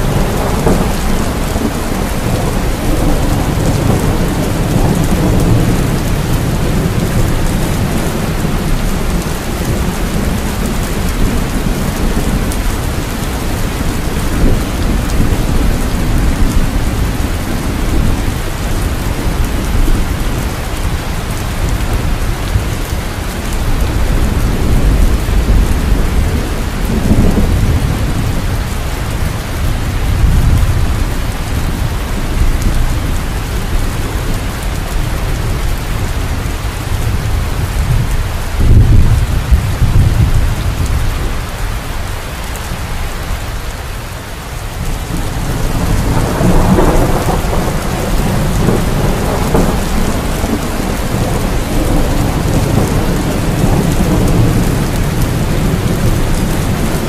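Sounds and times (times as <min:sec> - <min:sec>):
rolling thunder: 0:00.0 - 0:41.6, 0:44.7 - 0:57.0
heavy rain: 0:00.0 - 0:57.0.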